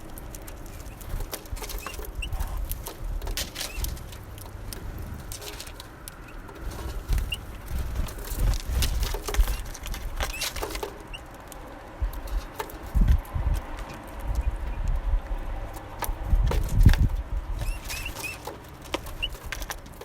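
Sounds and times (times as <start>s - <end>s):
birds pecking and landing: 0.0s - 20.0s.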